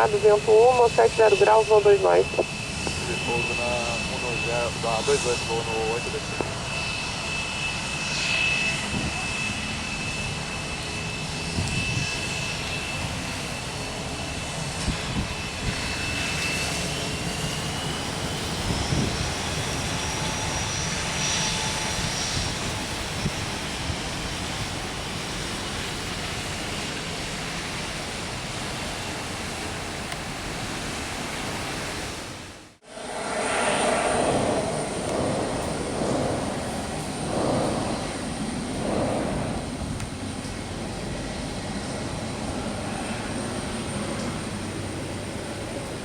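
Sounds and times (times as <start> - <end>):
jet engines running with whine: 0.0 - 46.0.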